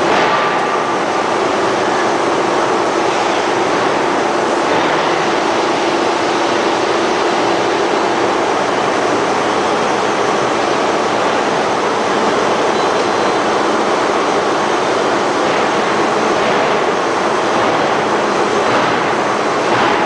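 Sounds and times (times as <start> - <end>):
machinery roar: 0.0 - 20.0.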